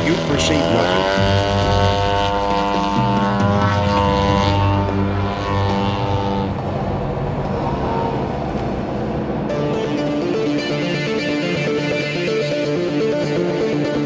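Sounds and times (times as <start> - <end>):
model plane engine drone: 0.0 - 12.3.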